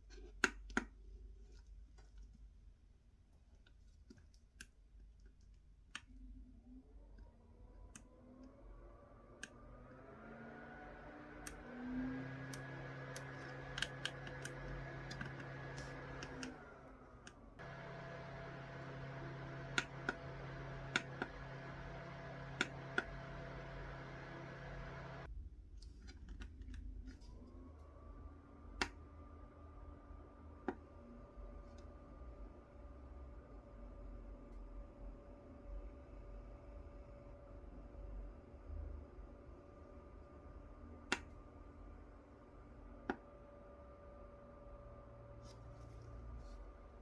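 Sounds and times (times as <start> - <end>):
desk fan motor humming: 7.0 - 25.3, 27.2 - 47.0.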